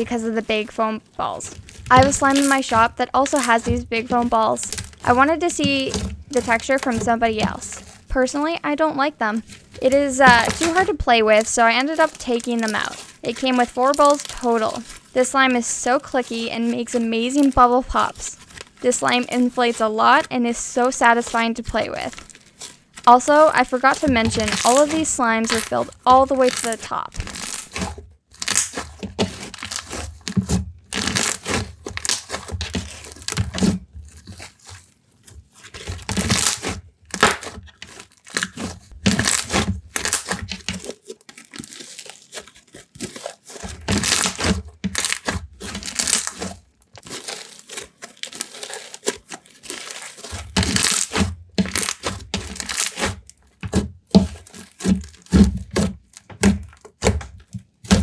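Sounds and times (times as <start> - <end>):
slime squeezed by hand crackling: 0.0 - 30.3, 30.9 - 33.4, 35.6 - 53.3.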